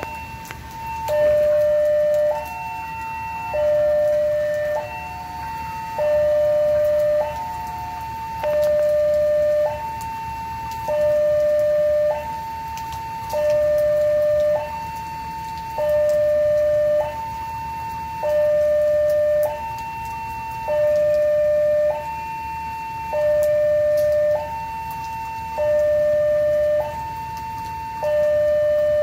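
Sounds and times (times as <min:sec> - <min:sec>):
two-tone level-crossing siren: 0:00.0 - 0:29.0.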